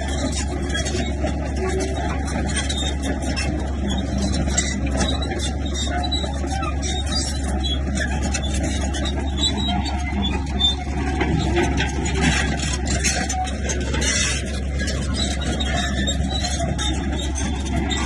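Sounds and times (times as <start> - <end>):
bulldozer diesel engine droning: 0.0 - 18.0.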